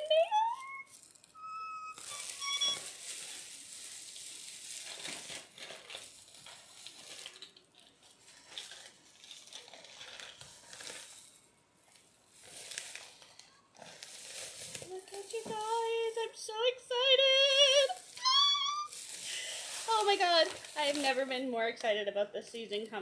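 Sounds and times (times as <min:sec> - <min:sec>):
plastic packaging crinkling: 0:00.0 - 0:22.1.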